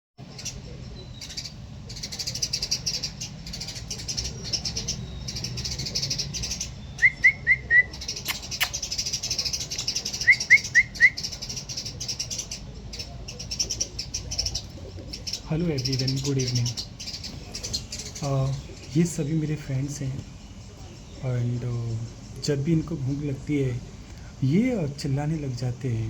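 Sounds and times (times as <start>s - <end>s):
flock of small birds chirping: 0.2s - 26.0s.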